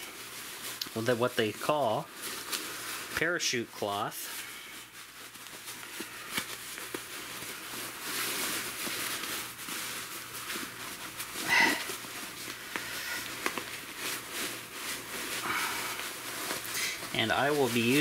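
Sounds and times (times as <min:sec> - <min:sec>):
fabric rustling and crinkling: 0:00.0 - 0:18.0.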